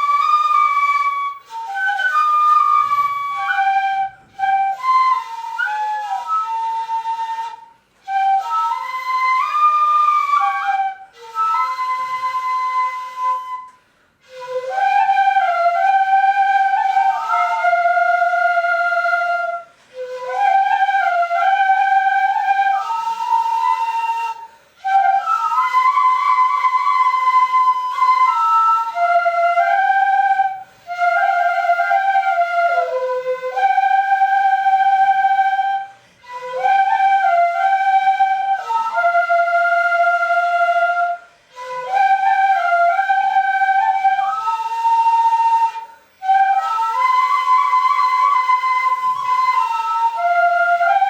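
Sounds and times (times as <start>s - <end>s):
bamboo flutes playing slow melody: 0.0s - 51.0s.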